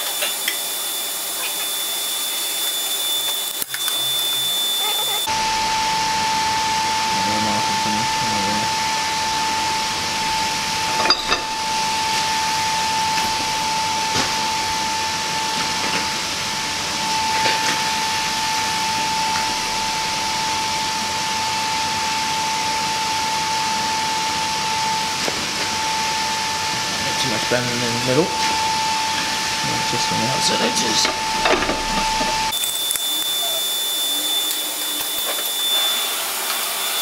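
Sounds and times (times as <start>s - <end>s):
forge hissing: 0.0s - 37.0s
high whine: 0.0s - 37.0s.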